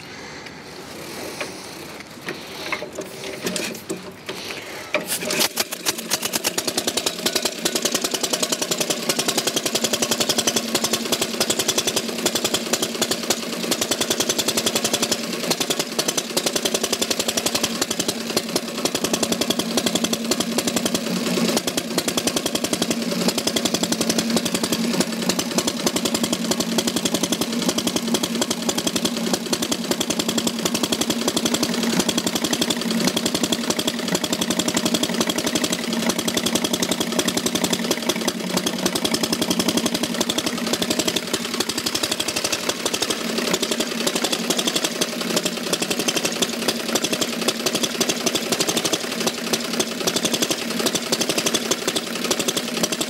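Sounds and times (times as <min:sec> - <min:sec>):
motorcycle engine running steadily: 0:00.0 - 0:53.0.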